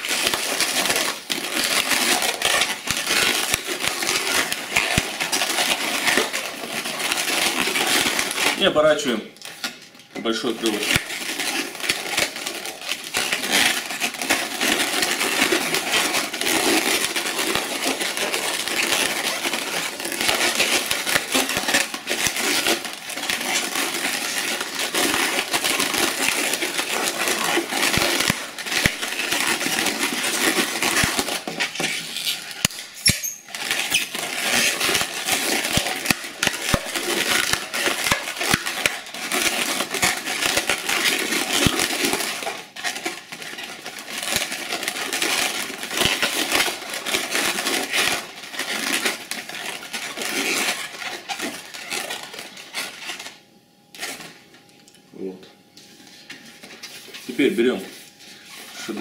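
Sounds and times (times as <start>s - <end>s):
balloons squeaking and rubbing: 0.0s - 9.6s, 10.2s - 53.4s, 56.3s - 59.0s.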